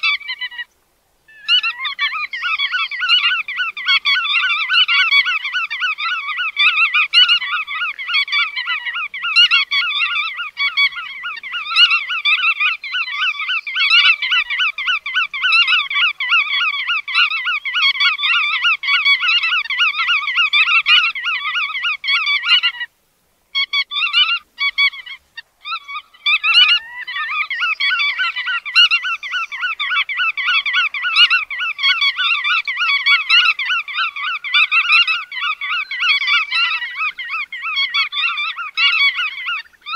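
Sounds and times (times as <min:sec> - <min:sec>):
flock of birds calling: 0:00.0 - 0:22.9, 0:23.5 - 0:39.9.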